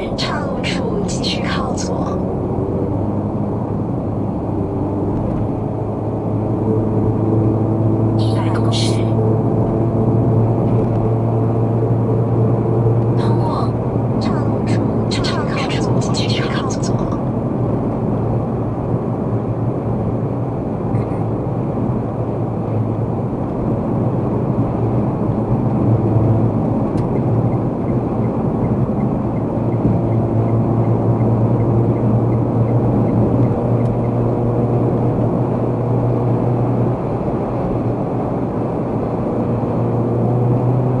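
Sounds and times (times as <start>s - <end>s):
car road and engine drone: 0.0s - 41.0s.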